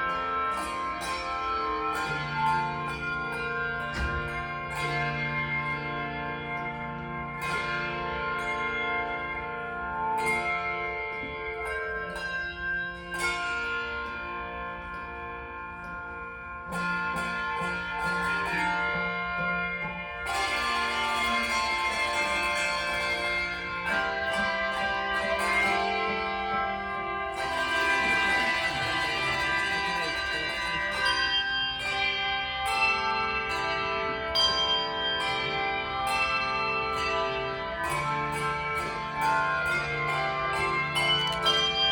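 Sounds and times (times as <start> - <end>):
handbells ringing chords: 0.0 - 41.9.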